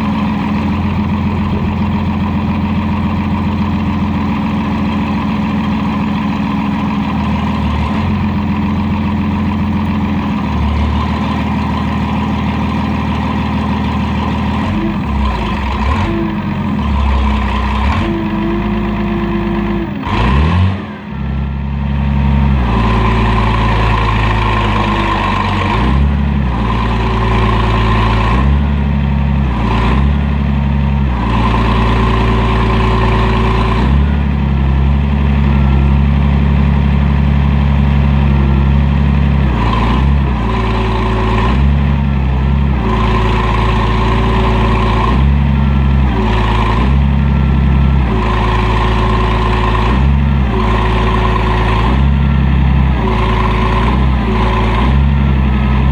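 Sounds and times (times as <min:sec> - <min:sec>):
backhoe engine running: 0:00.0 - 0:55.9
hydraulic whine: 0:00.0 - 0:55.9.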